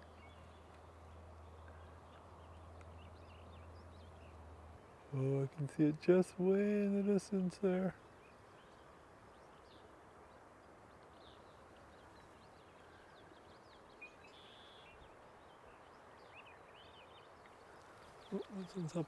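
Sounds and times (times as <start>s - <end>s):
distant birds chirping: 0.0s - 19.0s
faint outdoor hiss: 0.0s - 19.0s.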